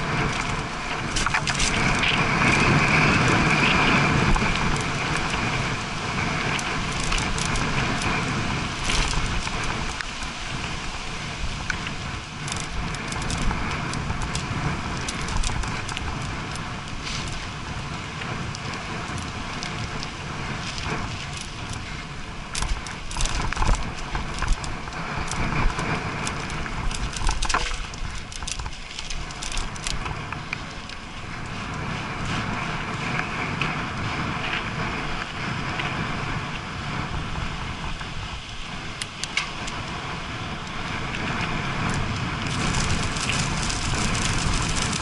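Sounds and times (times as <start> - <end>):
bike chain and frame rattling: 0.0 - 45.0
tyre and wind rumble: 0.0 - 45.0.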